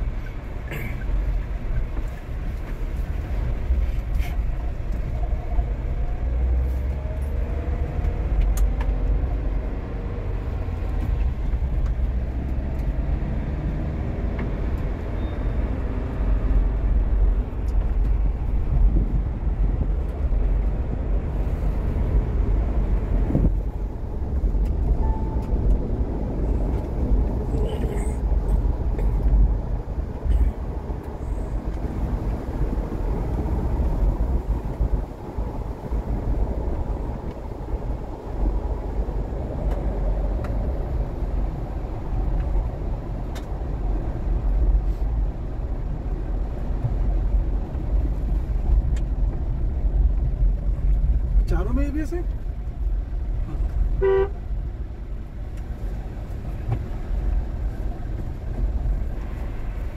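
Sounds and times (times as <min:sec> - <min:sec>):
diesel engine rumble: 0:00.0 - 0:59.9
road noise: 0:00.0 - 0:59.9.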